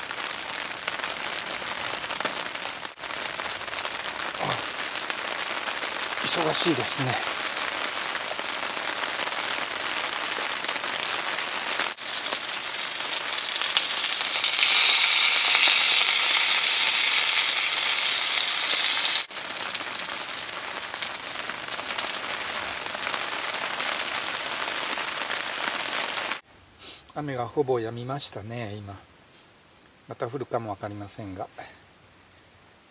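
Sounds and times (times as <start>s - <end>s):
food sizzling in a frying pan: 0.0s - 26.4s
rain falling: 0.0s - 26.4s.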